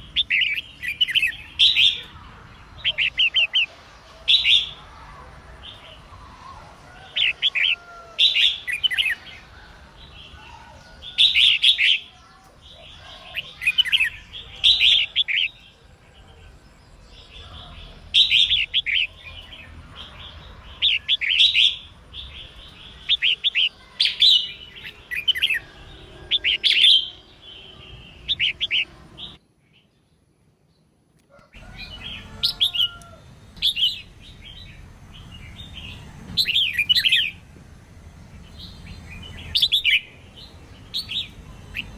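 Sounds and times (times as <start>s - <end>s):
bird warbling song: 0.0s - 29.4s, 31.6s - 41.9s.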